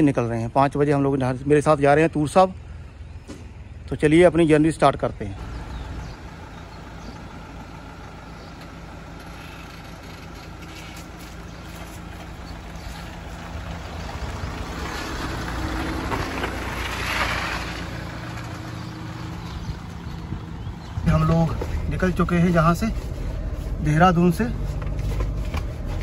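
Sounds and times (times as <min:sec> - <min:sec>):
vehicle engine idling: 0:01.4 - 0:26.0.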